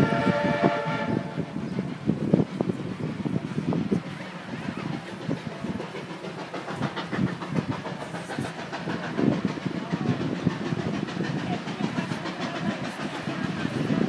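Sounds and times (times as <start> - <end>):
steam train clattering on track: 0.0 - 14.0.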